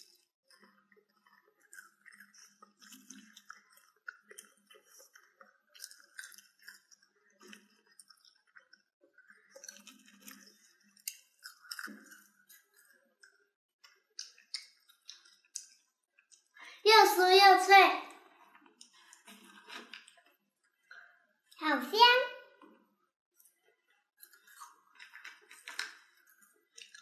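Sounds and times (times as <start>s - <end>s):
chewing crisp fries: 0.0s - 16.8s, 18.0s - 21.2s, 23.4s - 27.0s.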